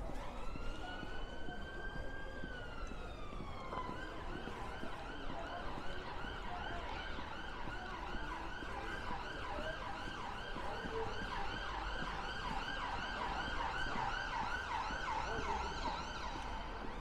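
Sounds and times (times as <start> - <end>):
emergency siren yelping: 0.1 - 17.0.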